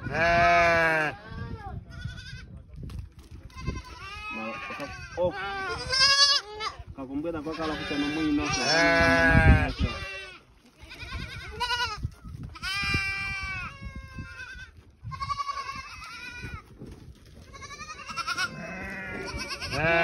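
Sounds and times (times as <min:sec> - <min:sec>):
goat kids bleating: 0:00.0 - 0:02.5, 0:03.4 - 0:16.7, 0:17.4 - 0:20.0.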